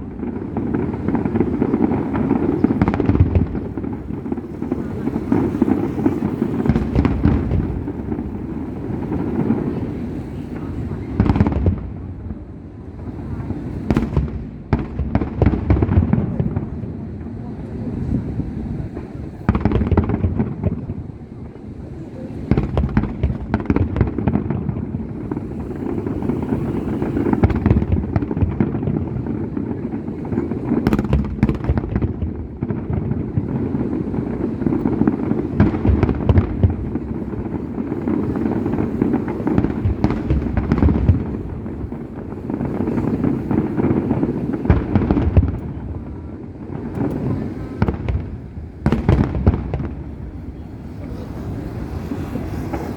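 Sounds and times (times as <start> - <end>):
fireworks booming and cracking: 0.0 - 52.9.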